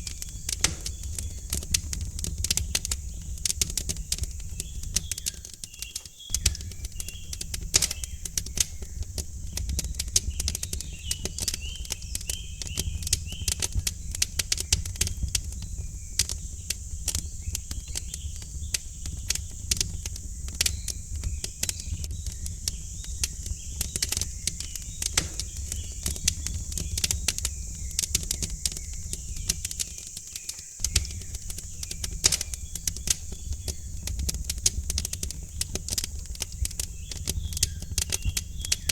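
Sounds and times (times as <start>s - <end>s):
faint bird chirps: 0.0s - 38.9s
wood fire crackling and popping: 0.0s - 38.9s.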